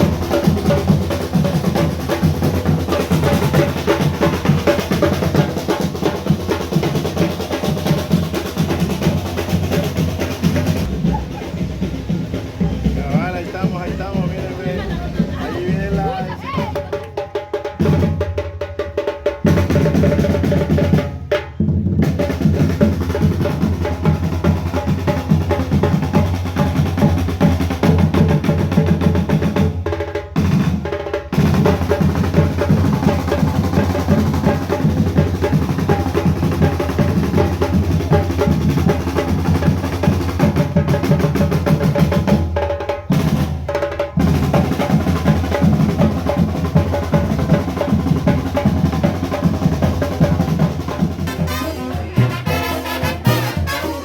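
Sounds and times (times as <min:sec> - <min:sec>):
snare and bass drums playing: 0:00.0 - 0:54.0.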